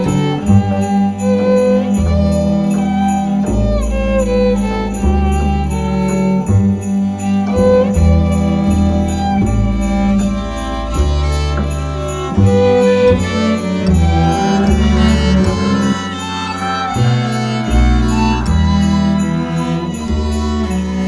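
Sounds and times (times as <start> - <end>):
deep bass line: 0.0 - 21.0
string ensemble bowed notes: 0.0 - 21.0.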